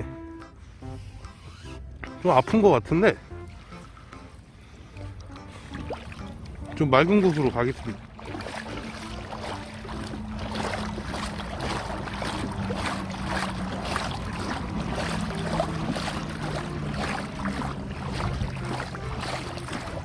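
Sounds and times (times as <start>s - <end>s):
water splashing: 1.9s - 20.0s.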